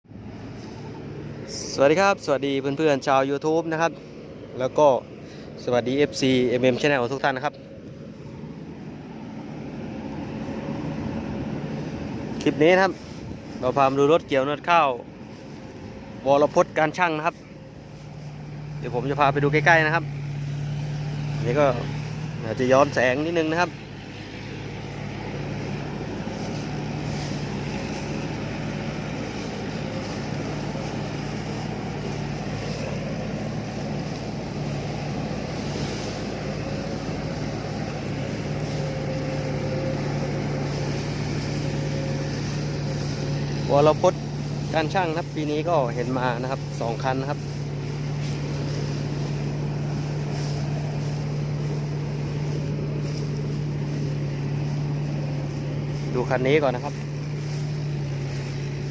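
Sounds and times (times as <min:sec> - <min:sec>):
harvester engine droning: 0:00.0 - 0:58.9.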